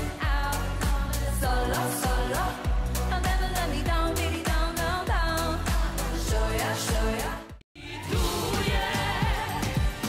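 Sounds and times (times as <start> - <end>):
woman singing: 0.0 - 10.0.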